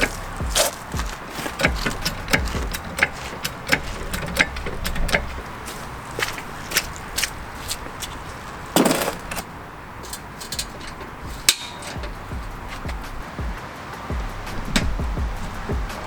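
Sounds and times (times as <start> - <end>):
metallic clinks of hand tools: 0.0 - 13.0.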